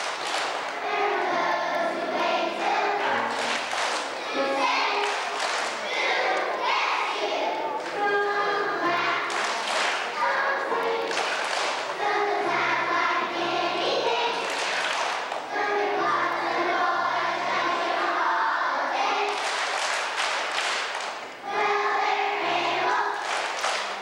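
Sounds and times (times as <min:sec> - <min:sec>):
voices singing together: 0:00.0 - 0:20.7, 0:21.4 - 0:24.0.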